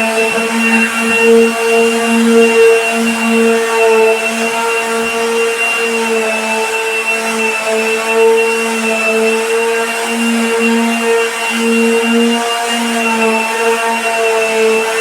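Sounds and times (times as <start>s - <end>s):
power sander motor whine: 0.0s - 15.0s.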